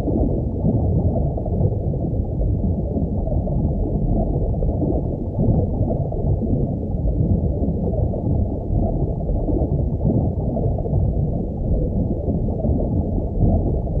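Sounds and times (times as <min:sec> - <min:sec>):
underwater low rumble: 0:00.0 - 0:14.0.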